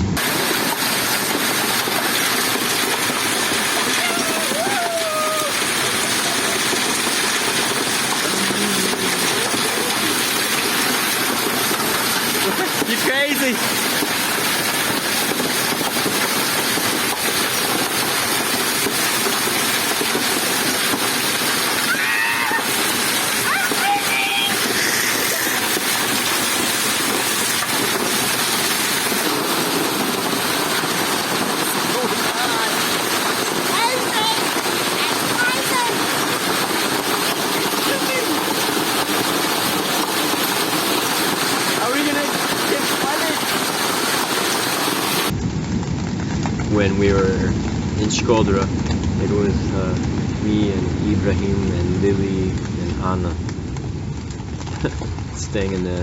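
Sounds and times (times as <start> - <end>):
rain beating on shelter: 0.0 - 56.0
wind: 0.0 - 56.0.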